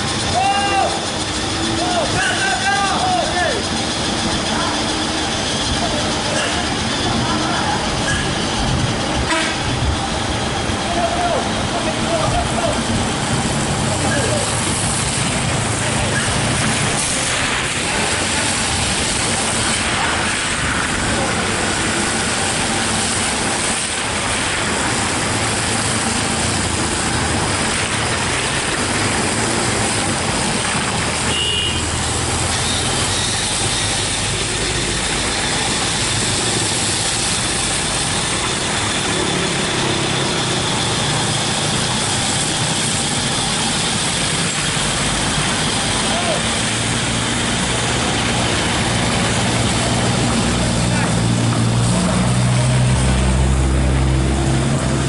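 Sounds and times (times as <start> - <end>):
road traffic on wet road: 0.0 - 55.0.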